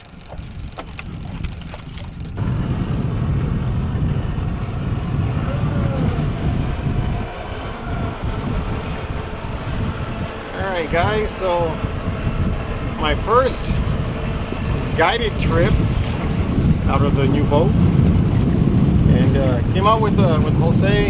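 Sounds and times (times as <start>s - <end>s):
boat motor rumble: 0.0s - 21.0s
wind rush: 0.0s - 21.0s.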